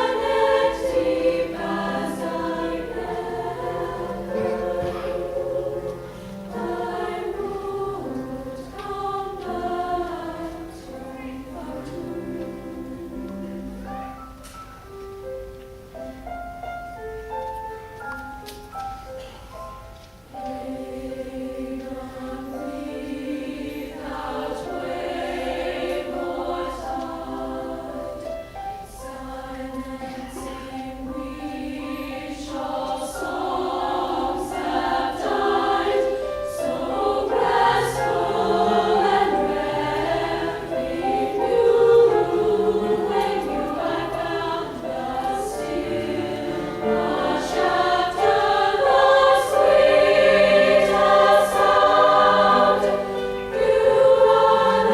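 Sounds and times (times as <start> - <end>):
women's choir singing: 0.0 - 14.2, 20.3 - 54.9
piano accompaniment: 0.0 - 54.9.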